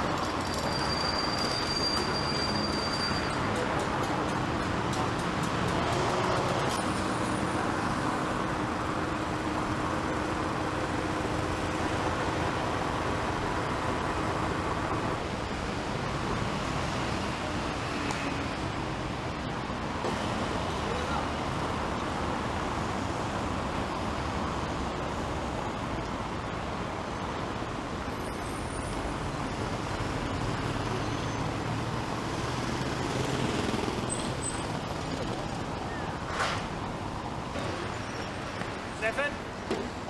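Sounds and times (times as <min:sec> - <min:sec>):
passing cars: 0:00.0 - 0:40.0.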